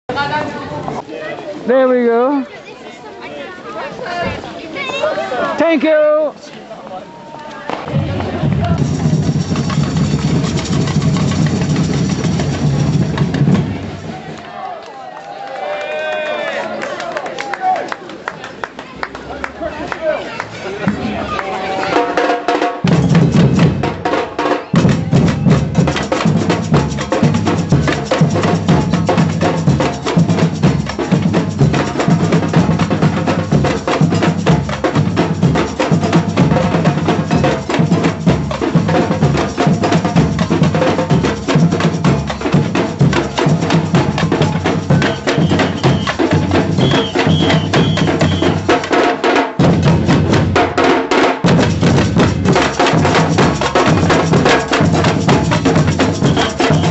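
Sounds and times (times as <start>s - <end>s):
street drum band playing: 1.6s - 2.4s, 7.7s - 14.5s, 18.9s - 56.9s.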